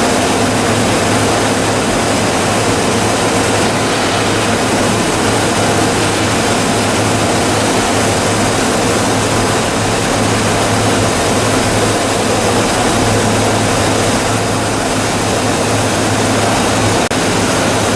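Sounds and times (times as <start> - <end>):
constant low hum: 0.0 - 17.9
recycling machine running: 0.0 - 17.9.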